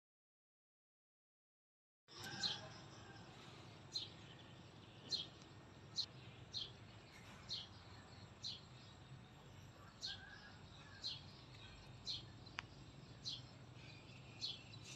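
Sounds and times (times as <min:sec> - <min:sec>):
faint background noise: 0:02.1 - 0:14.9
small bird chirping: 0:02.2 - 0:14.9.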